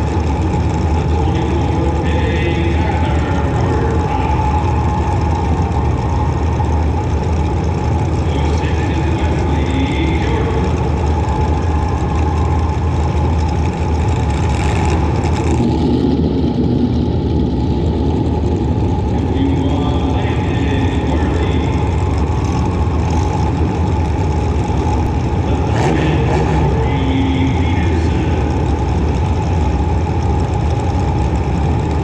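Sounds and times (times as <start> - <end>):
car engine rumbling under load: 0.0 - 32.0.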